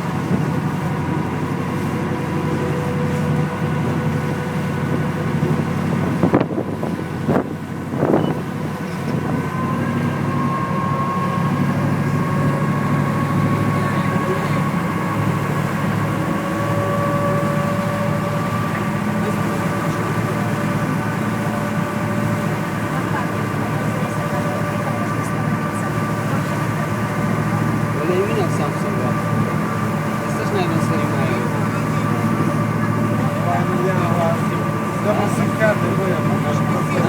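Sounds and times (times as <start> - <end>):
engine drone: 0.0 - 37.0.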